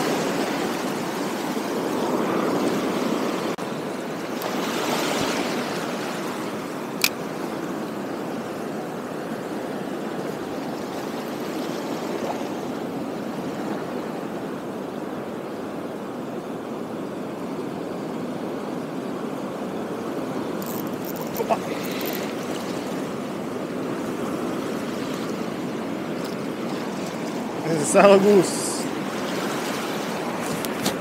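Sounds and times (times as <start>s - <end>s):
sea waves washing over rocks: 0.0s - 14.7s, 19.6s - 31.0s.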